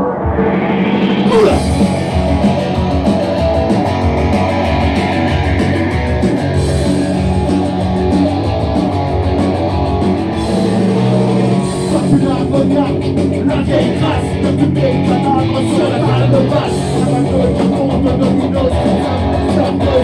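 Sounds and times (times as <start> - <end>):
electric guitar: 0.0 - 20.0.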